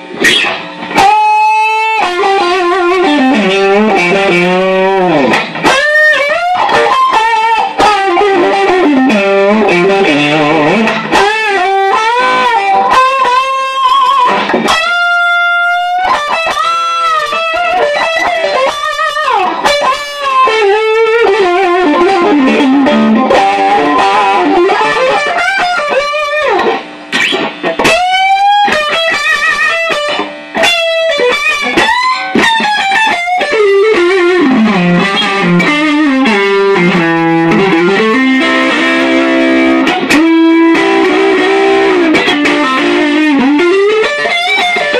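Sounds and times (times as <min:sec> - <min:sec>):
overdriven electric guitar lead: 0:00.0 - 0:44.9.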